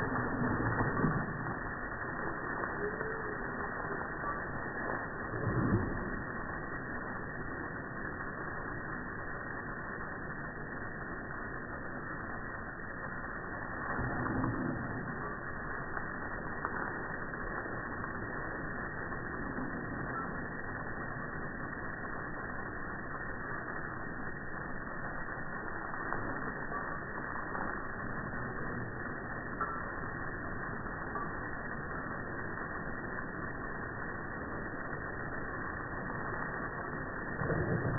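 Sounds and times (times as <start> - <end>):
garden hose spraying water: 0.0 - 37.9.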